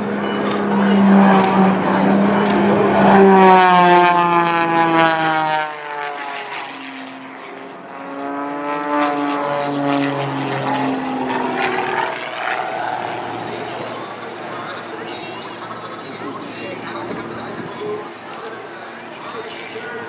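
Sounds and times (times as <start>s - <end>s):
propeller plane engine flying past: 0.0s - 20.0s.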